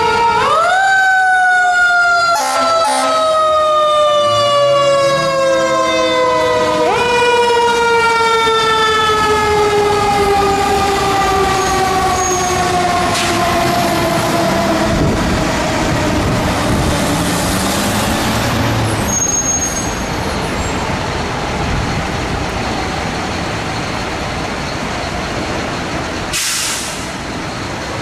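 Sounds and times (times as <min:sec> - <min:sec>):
fire truck siren wailing: 0:00.0 - 0:28.0.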